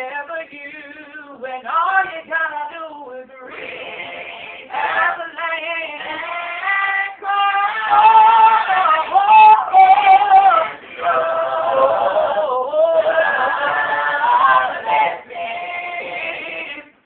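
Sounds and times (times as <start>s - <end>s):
vocal group singing: 0.0s - 17.0s.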